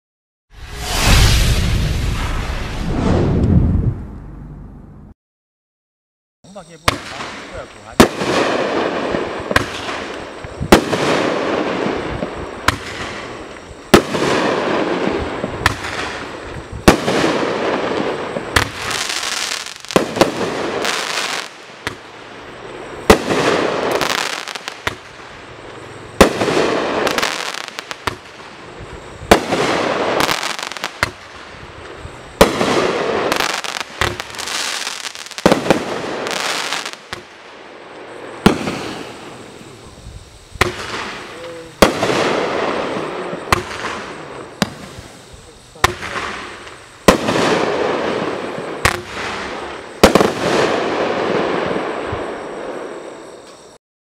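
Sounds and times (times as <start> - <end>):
firework crackling and sizzling: 0.5 - 3.5, 6.5 - 53.8
firework bangs: 0.6 - 3.7, 6.8 - 53.4.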